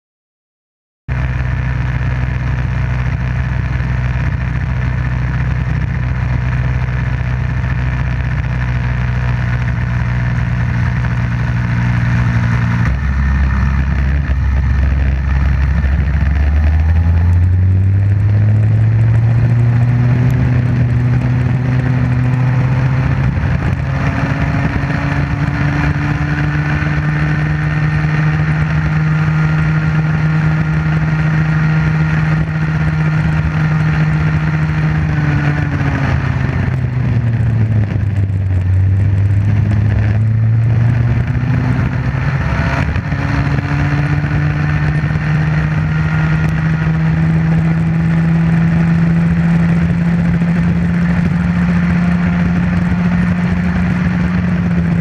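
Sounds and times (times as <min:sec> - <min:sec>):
kart engine revving: 0:01.1 - 0:55.0.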